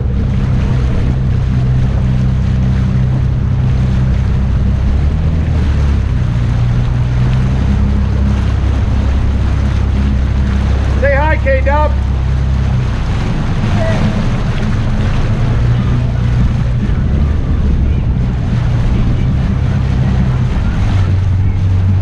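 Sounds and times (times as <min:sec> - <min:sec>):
jet ski engine running: 0:00.0 - 0:22.0
water rushing past hull: 0:00.0 - 0:22.0
wind buffeting microphone: 0:00.0 - 0:22.0.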